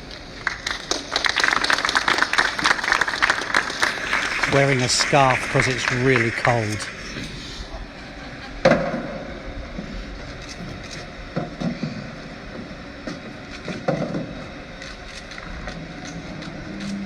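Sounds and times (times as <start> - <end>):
steady low rumble: 2.3 - 17.0.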